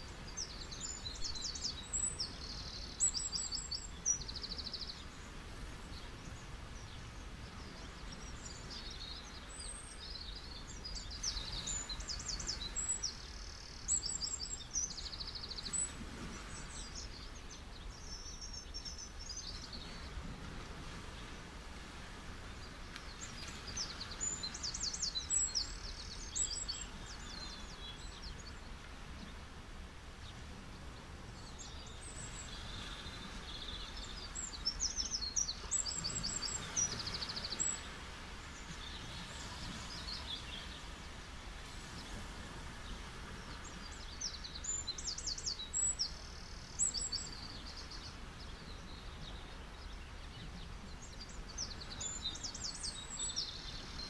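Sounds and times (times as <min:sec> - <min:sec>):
songbird chirping: 0:00.0 - 0:29.5, 0:30.2 - 0:41.2, 0:41.8 - 0:54.0
sea waves on a beach: 0:00.0 - 0:54.0.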